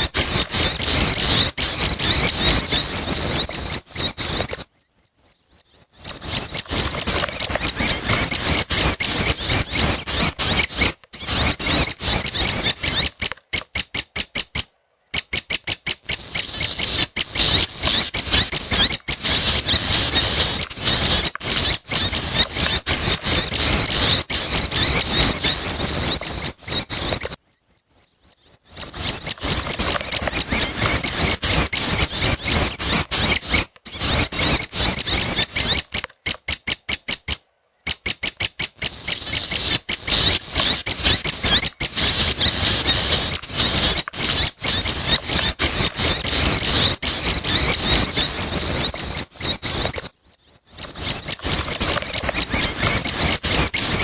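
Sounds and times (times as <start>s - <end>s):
nestlings high-pitched begging chirps: 0.0s - 54.0s.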